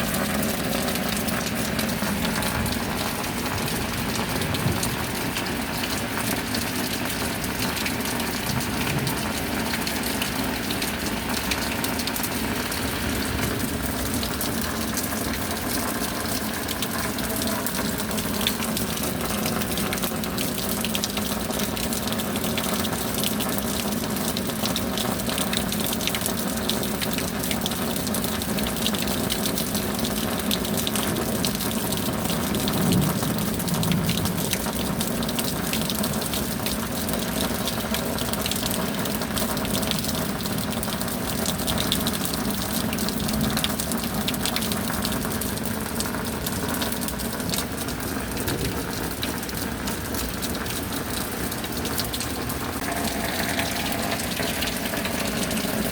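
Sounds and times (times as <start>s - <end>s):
rain: 0.0s - 55.9s
water pouring and splashing: 0.0s - 55.9s.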